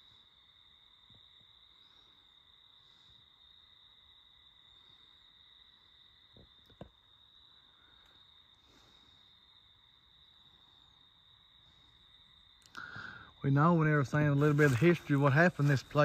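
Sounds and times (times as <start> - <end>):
cricket trill: 0.0 - 16.0.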